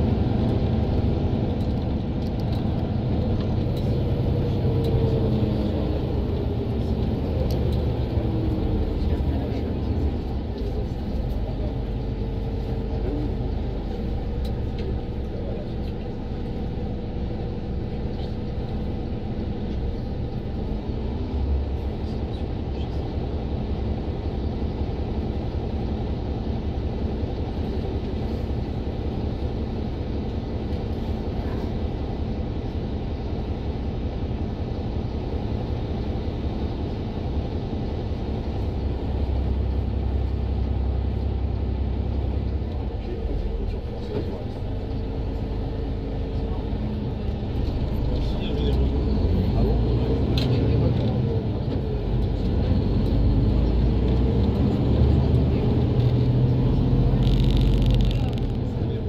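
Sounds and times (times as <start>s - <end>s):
bus engine drone: 0.0s - 59.0s
road rumble: 0.0s - 59.0s.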